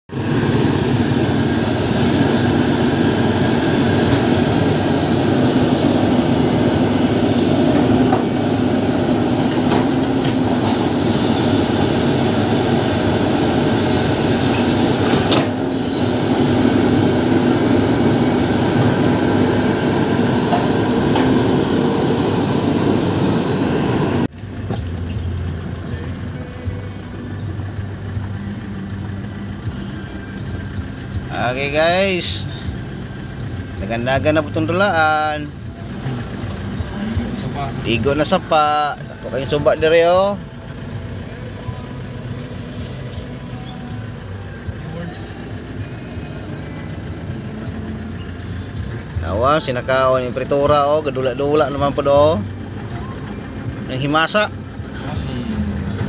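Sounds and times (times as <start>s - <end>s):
excavator diesel engine droning: 0.1s - 56.0s.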